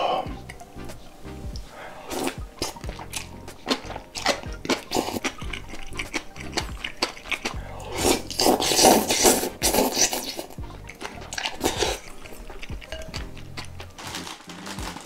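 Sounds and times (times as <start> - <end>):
person slurping noodles: 0.0 - 0.6, 1.6 - 14.6.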